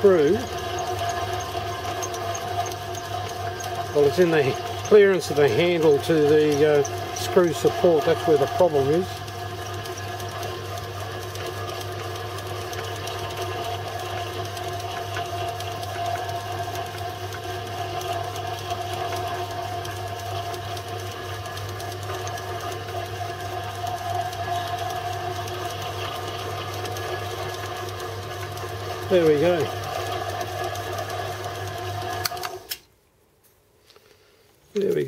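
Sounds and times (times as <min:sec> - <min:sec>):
milling machine cutting metal: 0:00.0 - 0:32.7.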